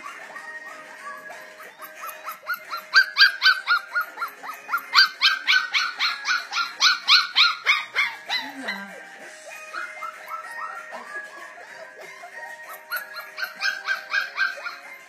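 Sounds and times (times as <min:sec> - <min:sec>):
puppy yelping: 0:00.0 - 0:15.0.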